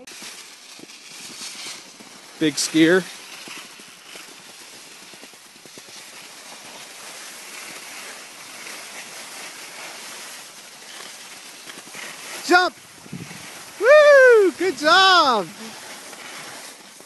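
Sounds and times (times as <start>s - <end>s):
skis scraping over packed snow: 0.0s - 17.0s.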